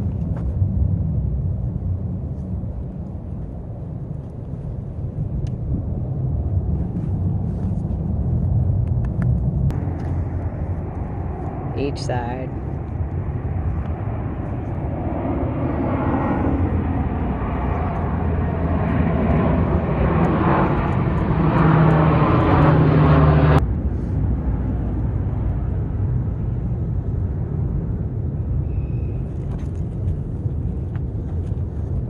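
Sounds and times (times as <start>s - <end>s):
low engine-like rumble: 0.0s - 32.0s.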